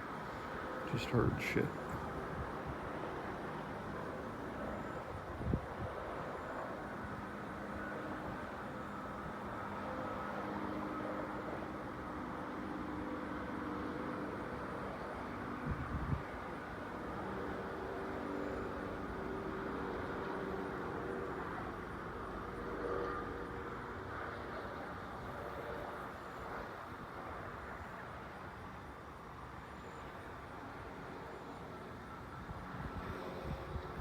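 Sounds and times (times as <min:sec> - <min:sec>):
distant highway traffic rumble: 0:00.0 - 0:34.0.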